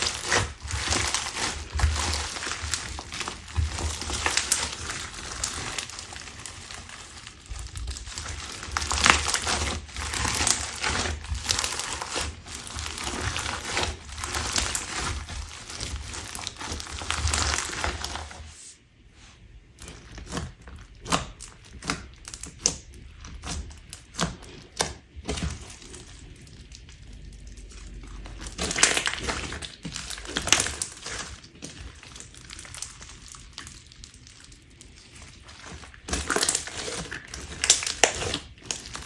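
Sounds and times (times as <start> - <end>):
crunchy slime crackling: 0.0 - 18.5, 19.6 - 39.0.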